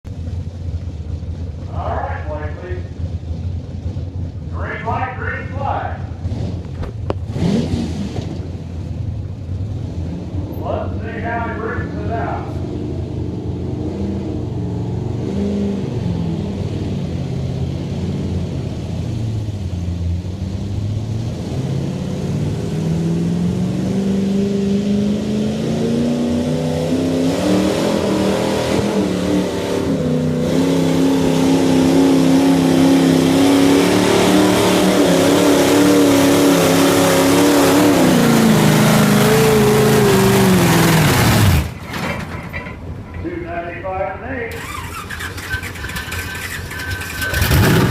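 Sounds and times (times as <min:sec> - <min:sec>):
truck engine revving under load: 0:06.0 - 0:11.1, 0:11.8 - 0:43.2, 0:44.5 - 0:47.9.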